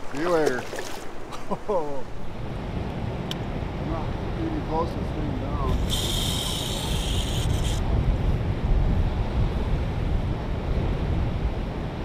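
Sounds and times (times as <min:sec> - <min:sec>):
wind buffeting microphone: 0:02.2 - 0:12.0.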